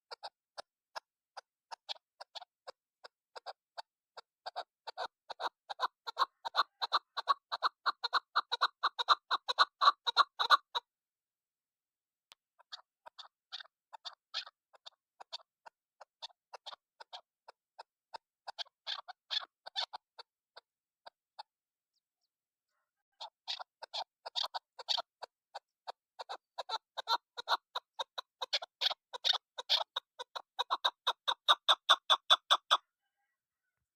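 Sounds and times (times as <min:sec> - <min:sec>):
partridge clucking calls: 0:00.0 - 0:10.9, 0:12.3 - 0:21.5, 0:22.7 - 0:33.4.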